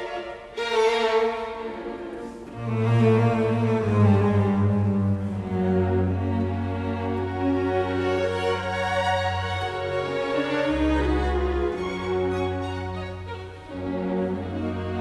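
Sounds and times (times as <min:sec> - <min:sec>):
bowed strings melody: 0:00.0 - 0:15.0
low cello and double bass: 0:00.0 - 0:15.0.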